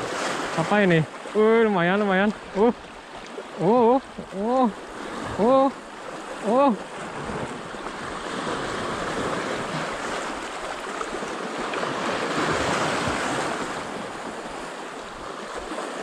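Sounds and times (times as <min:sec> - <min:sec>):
waves breaking on rocks: 0:00.0 - 0:16.0.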